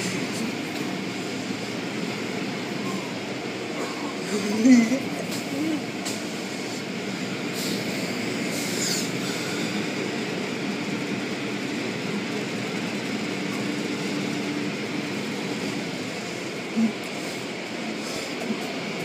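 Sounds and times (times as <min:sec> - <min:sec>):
car wash machinery: 0:00.0 - 0:19.0.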